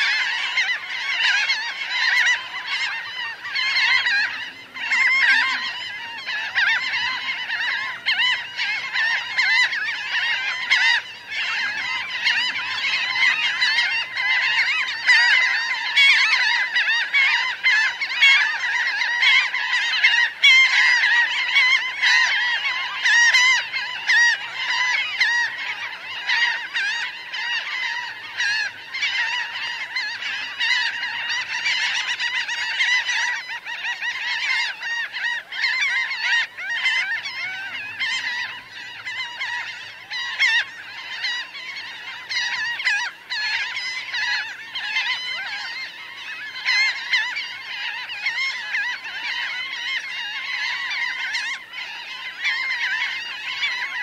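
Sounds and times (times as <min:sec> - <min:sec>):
flock of gulls calling: 0:00.0 - 0:54.0.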